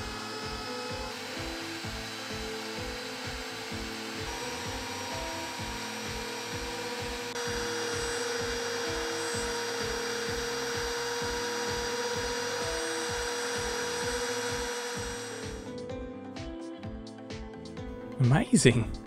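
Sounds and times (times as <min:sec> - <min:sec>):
router spindle whining: 0:00.0 - 0:15.7
background music with beat: 0:00.0 - 0:19.0.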